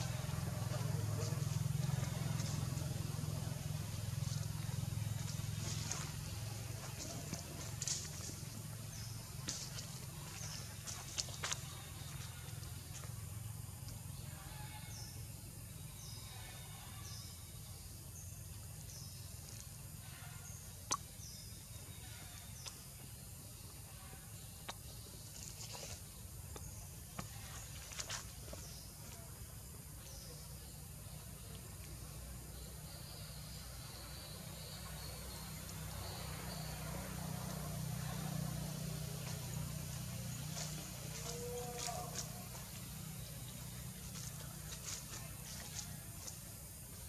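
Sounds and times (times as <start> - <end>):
low forest rumble: 0.0 - 16.3, 17.0 - 47.0.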